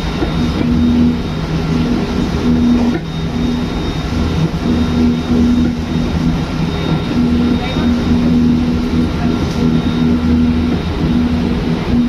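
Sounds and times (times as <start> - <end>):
low hum: 0.0 - 12.0
train wheels rumbling on rail: 0.0 - 12.0.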